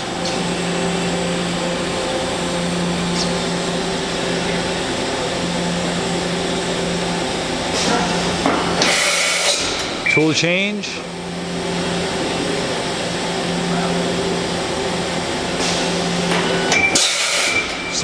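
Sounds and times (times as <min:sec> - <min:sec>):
machining center mechanical hum: 0:00.0 - 0:18.0.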